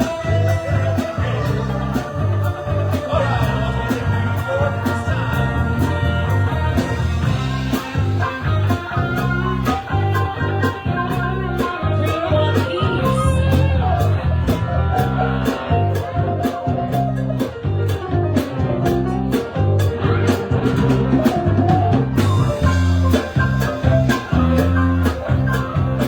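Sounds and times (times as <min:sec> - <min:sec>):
bass guitar: 0:00.0 - 0:26.0
drum kit beat: 0:00.0 - 0:26.0
electric guitar: 0:00.0 - 0:26.0.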